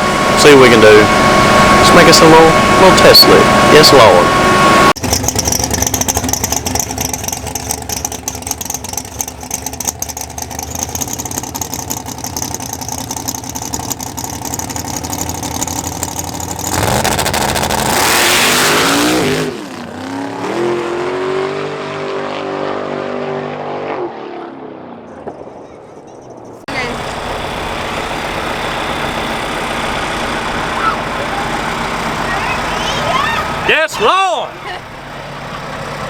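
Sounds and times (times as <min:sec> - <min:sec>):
drag race engine revving: 0:00.0 - 0:25.1, 0:26.6 - 0:36.0.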